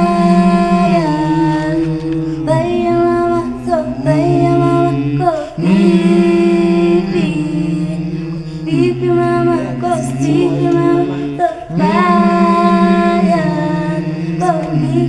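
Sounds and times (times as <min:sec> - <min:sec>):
a cappella group singing harmony: 0:00.0 - 0:15.0.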